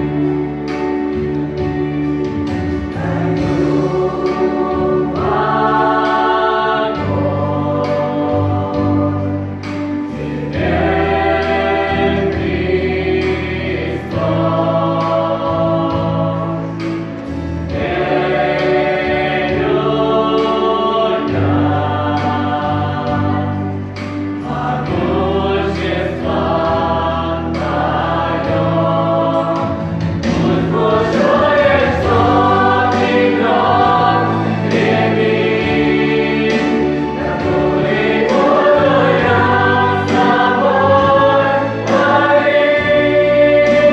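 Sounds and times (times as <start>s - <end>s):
choir singing: 0.0s - 43.9s
low musical accompaniment: 0.0s - 43.9s.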